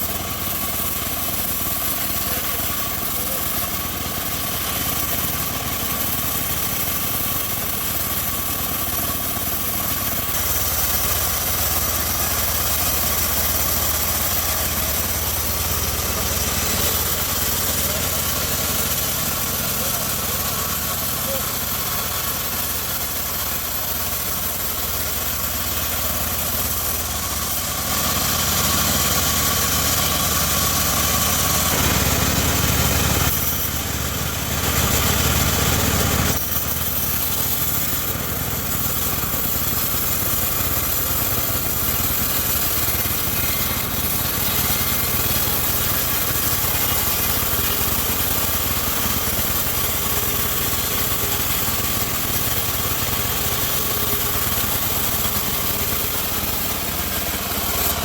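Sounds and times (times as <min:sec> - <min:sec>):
band sawmill droning: 0:00.0 - 0:58.0.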